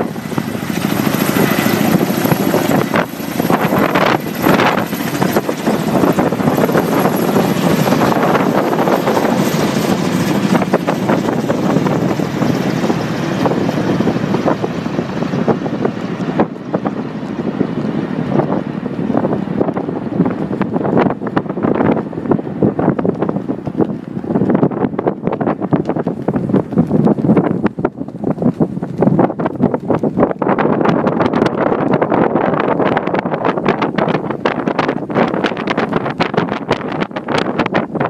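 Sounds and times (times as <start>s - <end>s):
helicopter flying overhead: 0.0s - 38.0s
wind noise on microphone: 0.0s - 38.0s.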